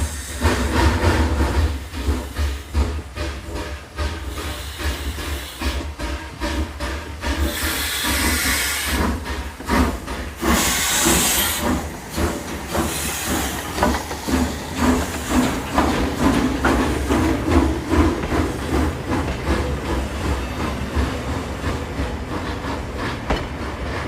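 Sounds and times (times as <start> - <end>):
locomotive chuffing: 0.0 - 24.0
steam locomotive hissing steam: 0.0 - 24.0.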